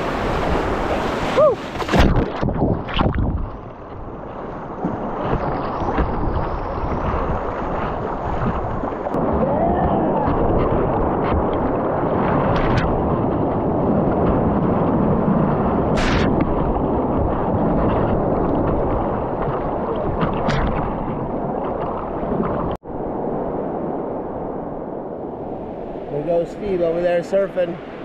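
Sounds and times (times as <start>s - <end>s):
sharp water splashes: 0.0s - 22.8s.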